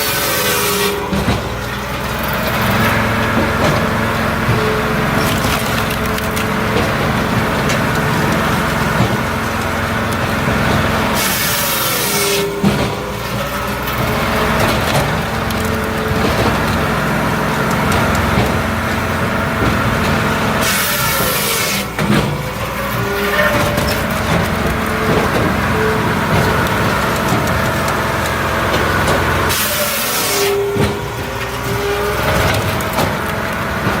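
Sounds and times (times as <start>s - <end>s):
diesel engine drone: 0.0s - 34.0s.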